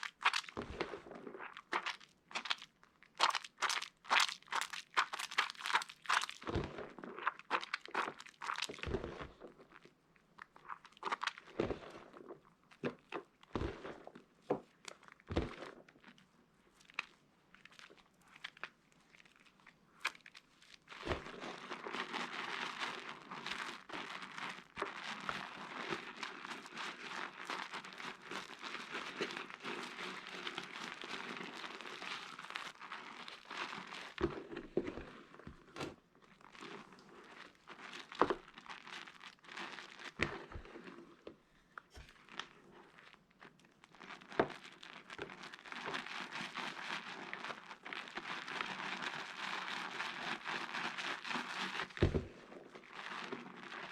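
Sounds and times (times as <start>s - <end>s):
soap crackling and crunching: 0.0s - 53.9s.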